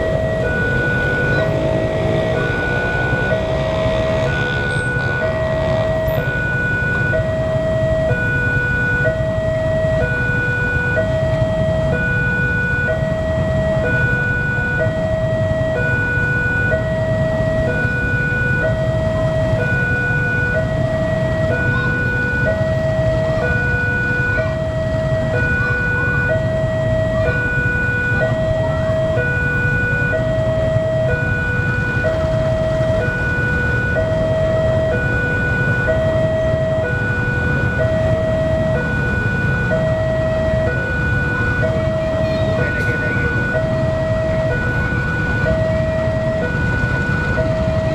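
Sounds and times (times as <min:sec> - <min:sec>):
level crossing alarm tones: 0:00.0 - 0:47.9.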